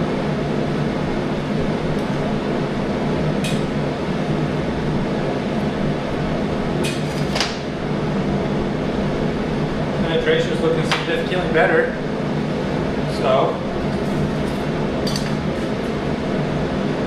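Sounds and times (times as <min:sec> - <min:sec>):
fan-like machine hum: 0:00.0 - 0:17.0.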